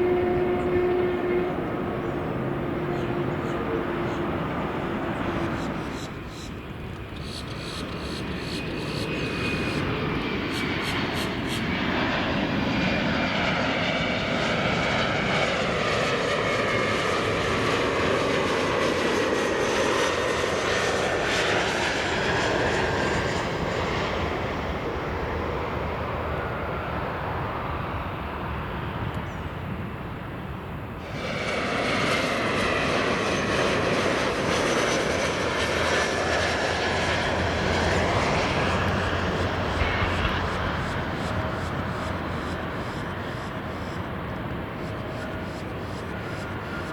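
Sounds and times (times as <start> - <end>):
jet engines roaring and whining: 0.0 - 46.9.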